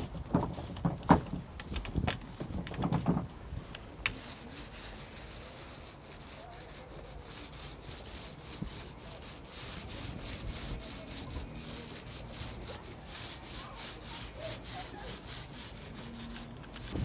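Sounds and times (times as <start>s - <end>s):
roller scraping gritty coating: 0.0s - 17.0s.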